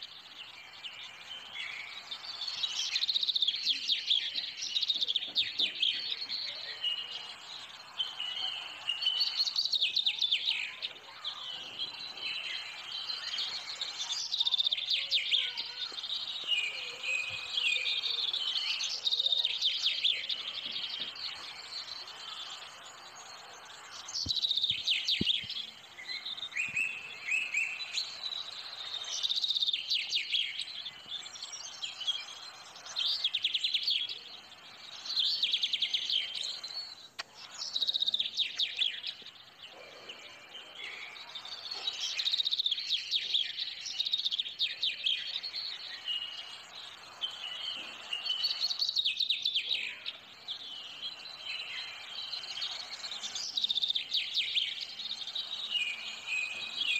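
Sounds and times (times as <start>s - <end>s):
songbirds chirping trills: 0.0s - 56.9s.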